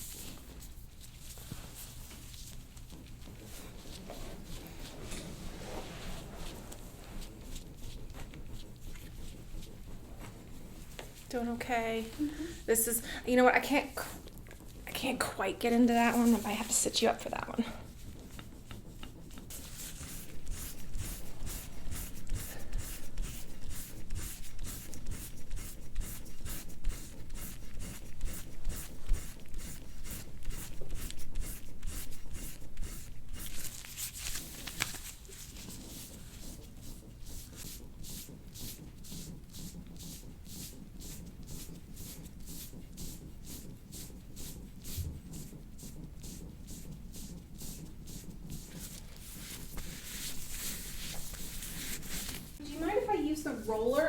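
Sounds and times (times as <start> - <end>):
hands rubbing over a body: 0.0 - 54.0.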